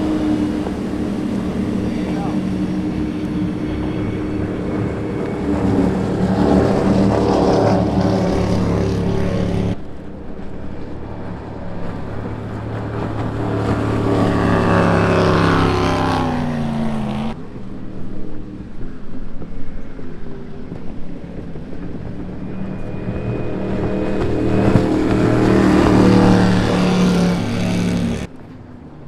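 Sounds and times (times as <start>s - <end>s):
powerboat engines passing: 0.0s - 29.0s.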